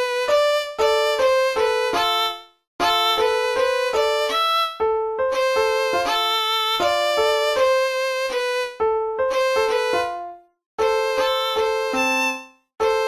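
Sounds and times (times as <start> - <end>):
piano accompaniment: 0.0 - 13.0
violin melody: 0.0 - 13.0.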